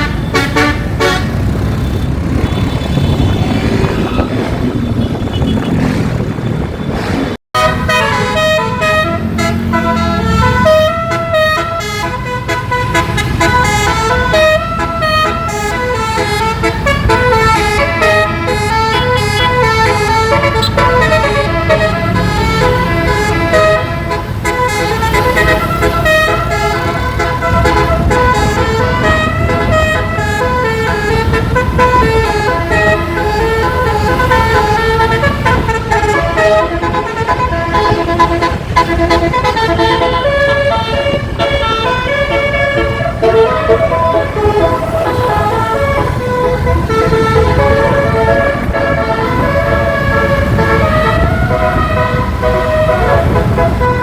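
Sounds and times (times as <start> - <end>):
musical air horn melody: 0.0 - 1.4, 7.5 - 54.0.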